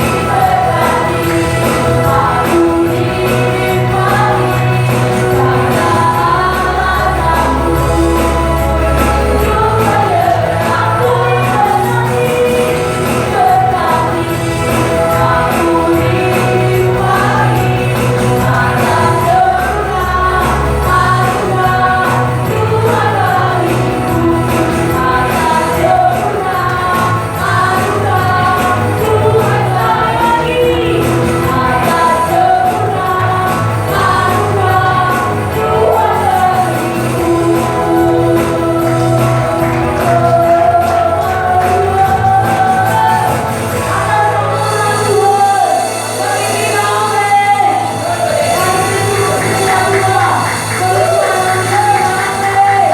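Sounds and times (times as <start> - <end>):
voices singing together: 0.0 - 52.9.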